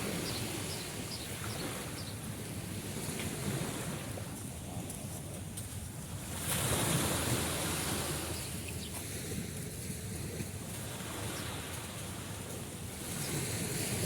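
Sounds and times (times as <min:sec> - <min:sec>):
sea waves surf hiss: 0:00.0 - 0:04.8, 0:06.1 - 0:14.0.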